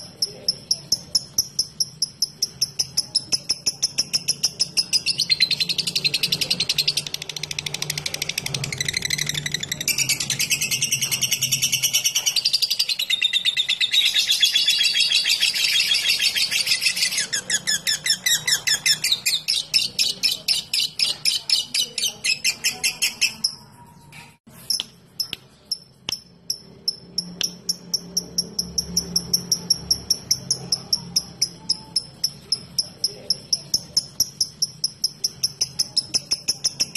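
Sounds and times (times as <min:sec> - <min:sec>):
bird ticking notes: 0:00.0 - 0:23.6, 0:24.7 - 0:36.9
bird chattering trill: 0:00.0 - 0:23.8, 0:24.7 - 0:36.9.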